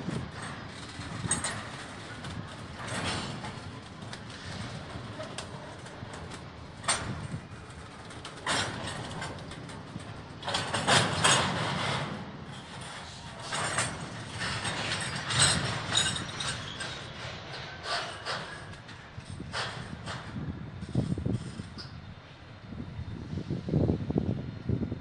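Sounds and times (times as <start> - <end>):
freight train wheels clattering: 0.0 - 22.6.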